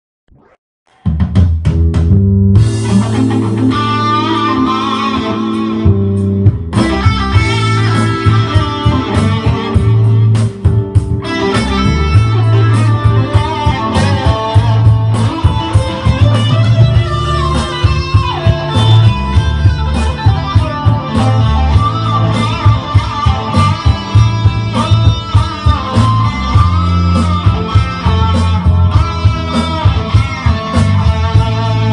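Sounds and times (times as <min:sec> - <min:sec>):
bass line: 0:00.3 - 0:31.9
steady drum beat: 0:01.0 - 0:04.1, 0:05.9 - 0:31.9
electric guitar lead: 0:01.8 - 0:31.9.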